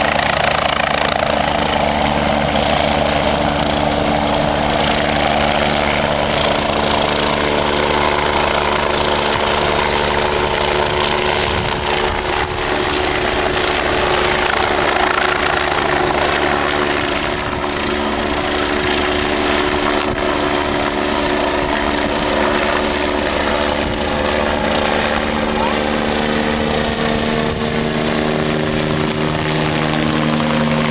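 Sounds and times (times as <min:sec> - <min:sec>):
engine running with noisy rush: 0:00.0 - 0:30.9.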